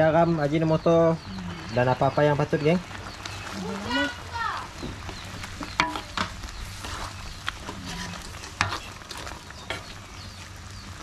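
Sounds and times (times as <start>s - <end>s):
curry simmering: 0.0s - 11.0s.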